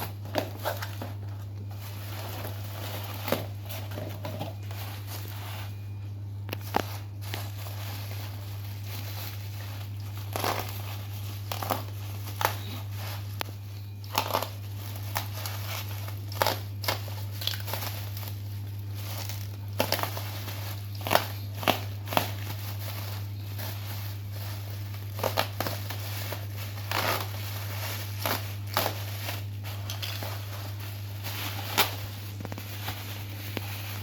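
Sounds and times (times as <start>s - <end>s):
packaging crinkling and rustling: 0.0s - 34.0s
steady low hum: 0.0s - 34.0s.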